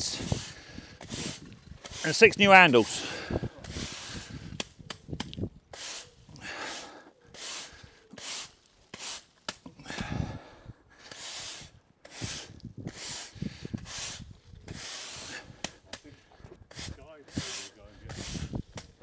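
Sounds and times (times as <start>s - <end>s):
broom scraping on tarmac: 0.0s - 4.5s, 5.7s - 9.5s, 11.0s - 15.6s, 16.6s - 19.0s.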